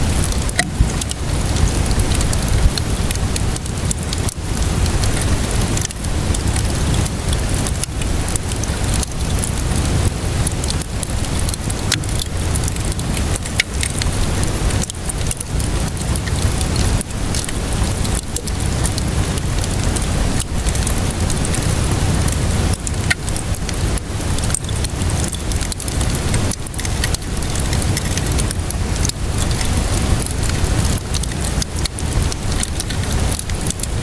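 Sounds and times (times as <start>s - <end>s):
steady rainfall: 0.0s - 34.0s
wood fire crackling: 0.0s - 34.0s.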